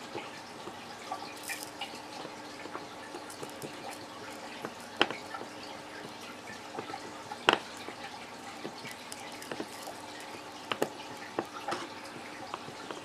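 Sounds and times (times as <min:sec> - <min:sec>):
faint steady hum: 0:00.0 - 0:13.0
soldering iron melting plastic: 0:01.4 - 0:13.0.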